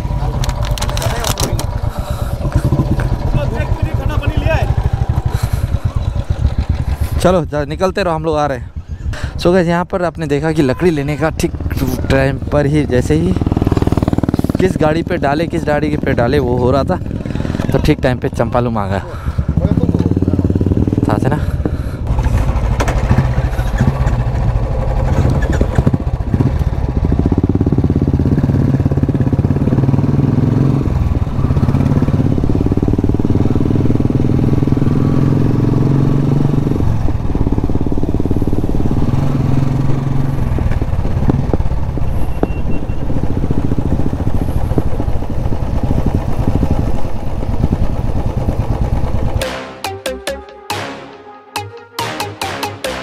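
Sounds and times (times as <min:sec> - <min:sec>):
motorcycle engine running: 0:00.0 - 0:09.5, 0:10.3 - 0:49.5.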